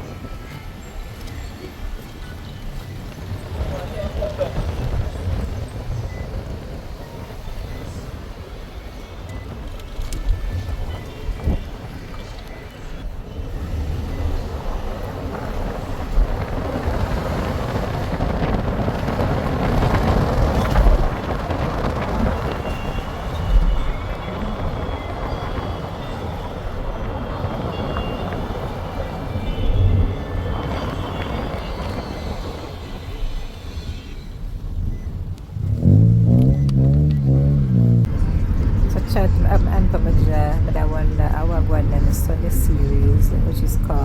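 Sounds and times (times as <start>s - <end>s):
car driving on road: 0.0s - 44.0s.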